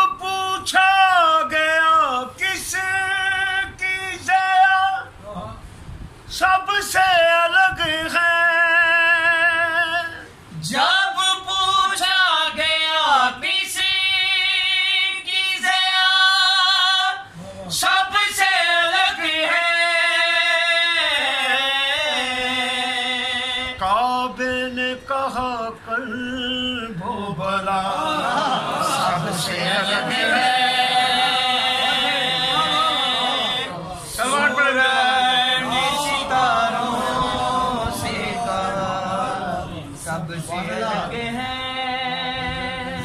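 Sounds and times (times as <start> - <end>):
man singing unaccompanied: 0.0 - 5.7, 6.3 - 43.0.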